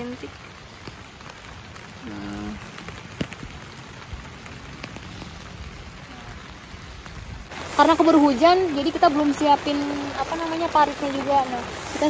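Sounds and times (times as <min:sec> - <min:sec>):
rain pattering on a tent: 0:00.0 - 0:12.0.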